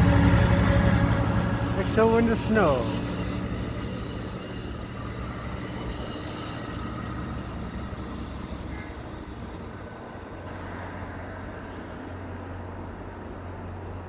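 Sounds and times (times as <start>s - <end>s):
train rumbling past on rails: 0.0s - 14.0s.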